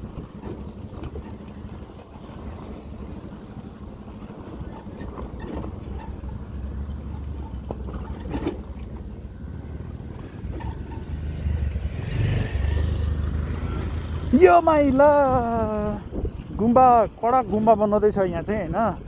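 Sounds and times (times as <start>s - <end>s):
motorcycle engine running: 0.0s - 19.0s
motorcycle rattling over bumps: 0.0s - 19.0s.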